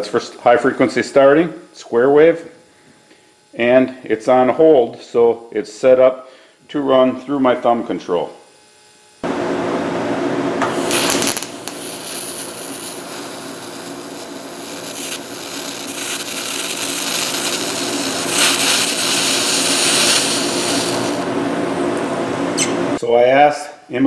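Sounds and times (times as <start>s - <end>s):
welding arc buzzing and hissing: 0.0s - 23.0s.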